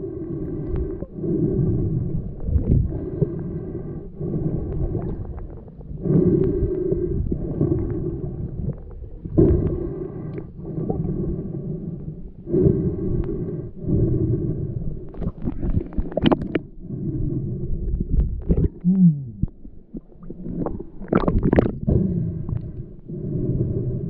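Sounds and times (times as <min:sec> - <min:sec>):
snorkel breathing underwater: 0:00.0 - 0:24.0.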